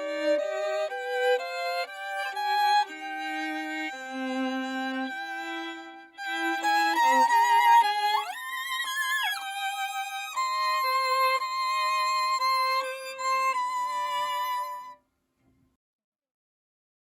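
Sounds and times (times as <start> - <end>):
violin melody with vibrato: 0.0 - 15.0.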